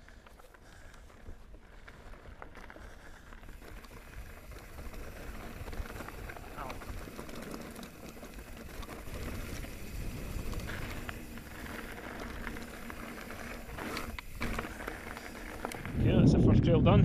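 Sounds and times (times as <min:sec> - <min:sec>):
bike clicks and rattles: 0:00.0 - 0:16.2
bike tyres rumbling on gravel: 0:00.0 - 0:16.4.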